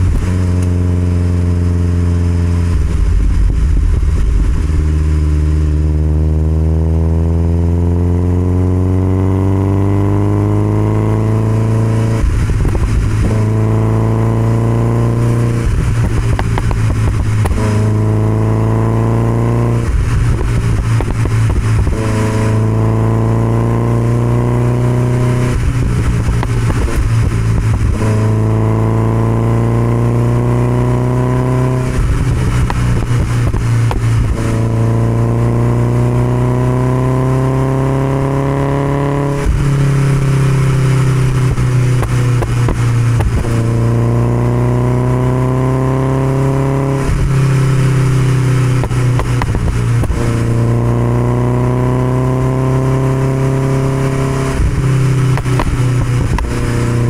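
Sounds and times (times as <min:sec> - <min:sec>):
rough rushing noise: 0:00.0 - 0:07.7, 0:09.1 - 0:57.0
car engine running: 0:00.0 - 0:57.0.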